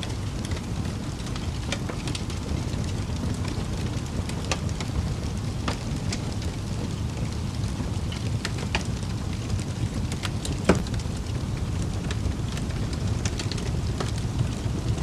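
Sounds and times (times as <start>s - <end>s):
burning logs crackling and popping: 0.0s - 15.0s
wood fire hissing: 0.0s - 15.0s.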